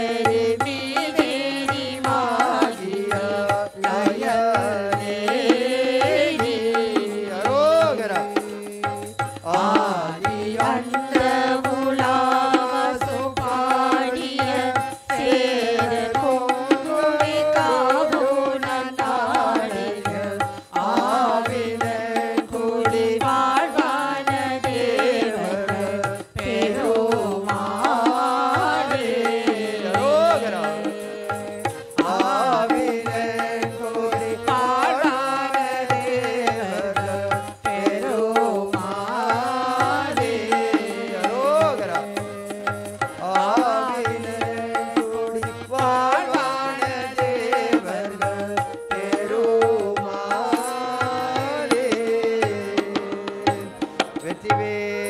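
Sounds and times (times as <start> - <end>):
harmonium notes: 0.0 - 55.0
tabla beat: 0.0 - 55.0
woman singing: 0.0 - 55.0.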